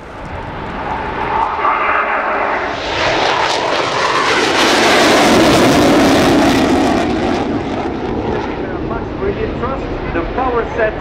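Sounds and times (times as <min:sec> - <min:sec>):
jet roar: 0:00.0 - 0:11.0.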